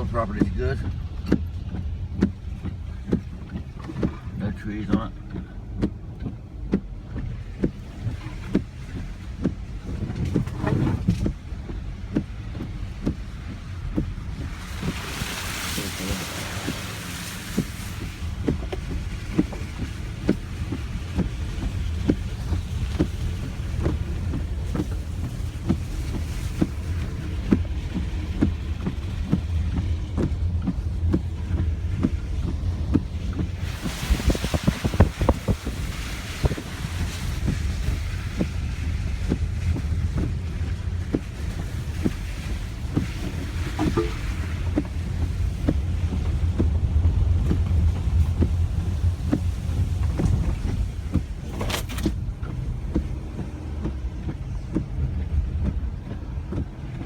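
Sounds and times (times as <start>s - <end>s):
car road rumble: 0.0s - 57.0s.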